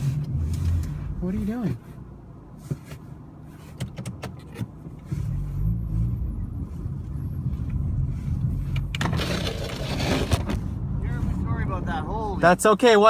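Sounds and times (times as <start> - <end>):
car engine rumble: 0.0 - 13.0
tyres on snowy road: 0.0 - 13.0.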